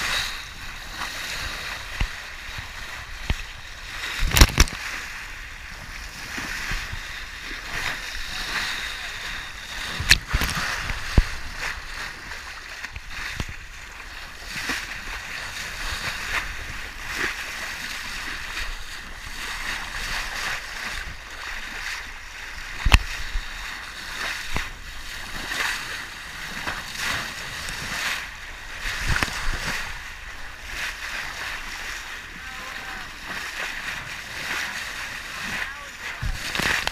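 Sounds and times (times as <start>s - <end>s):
water splashing along boat hull: 0.0s - 36.9s.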